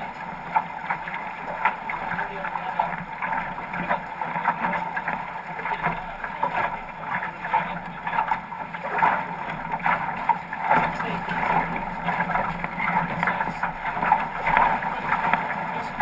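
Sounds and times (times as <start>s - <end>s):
water rushing against hull: 0.0s - 16.0s
water slaps and splashes: 0.1s - 16.0s.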